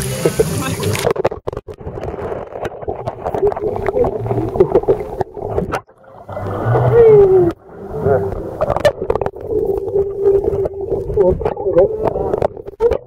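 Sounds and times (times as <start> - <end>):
muffled underwater water noise: 0.0 - 13.0.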